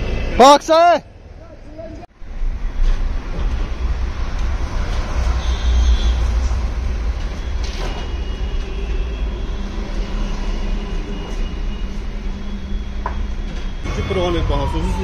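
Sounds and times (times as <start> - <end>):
vehicle engine rumbling: 1.2 - 15.0.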